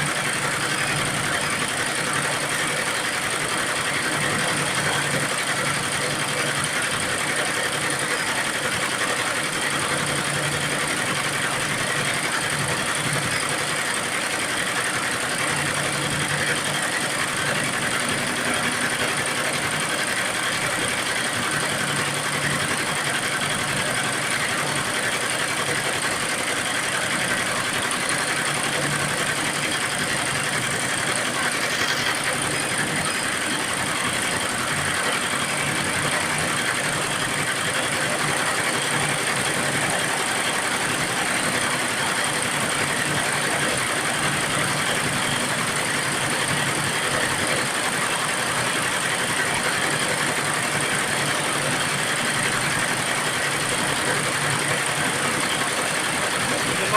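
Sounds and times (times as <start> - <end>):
embroidery machine stitching: 0.0 - 56.9.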